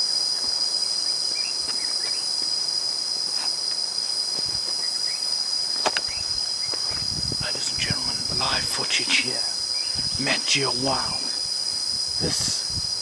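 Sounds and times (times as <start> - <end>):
shrill insect chorus: 0.0 - 13.0.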